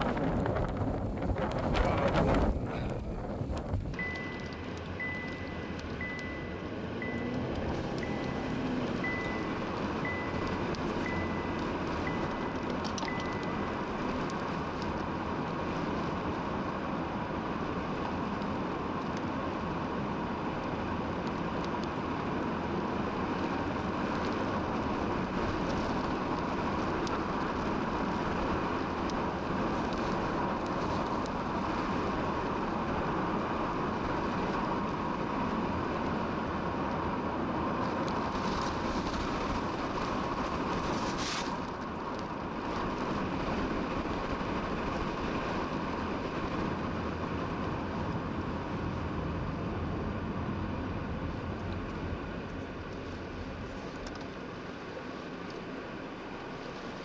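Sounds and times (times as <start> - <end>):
road and engine noise: 0.0 - 57.0.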